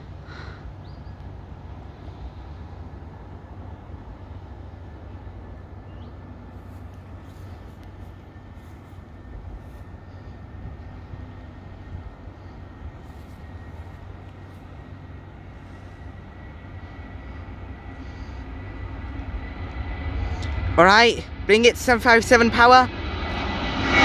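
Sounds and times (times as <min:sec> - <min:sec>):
jet engines at takeoff power: 0:00.0 - 0:24.0.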